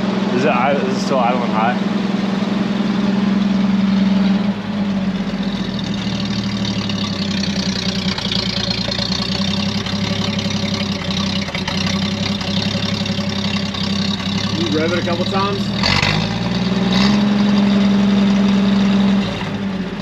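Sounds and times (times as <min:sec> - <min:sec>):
six-cylinder engine idling: 0:00.0 - 0:20.0.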